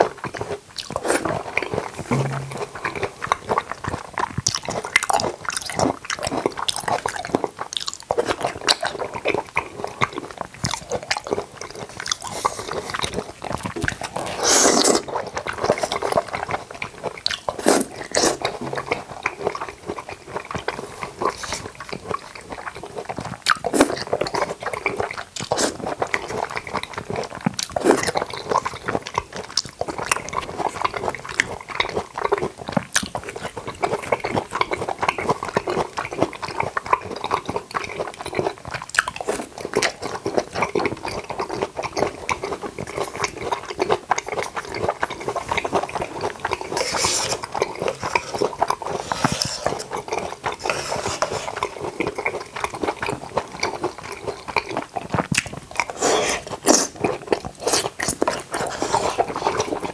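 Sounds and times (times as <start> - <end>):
chewing and biting: 0.0 - 59.9
mouth clicks and smacks: 0.3 - 9.4, 10.0 - 59.9.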